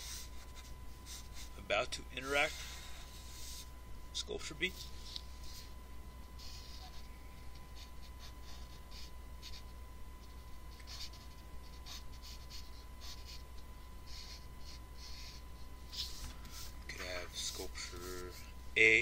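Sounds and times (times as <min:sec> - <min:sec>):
marker pen scratching on paper: 0:00.0 - 0:01.6, 0:02.2 - 0:03.7, 0:04.7 - 0:18.5.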